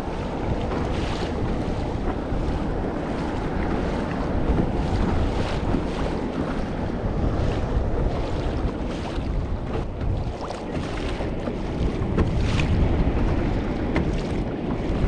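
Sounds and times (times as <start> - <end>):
water splashing against kayak hull: 0.0 - 15.0
wind buffeting microphone: 0.0 - 15.0.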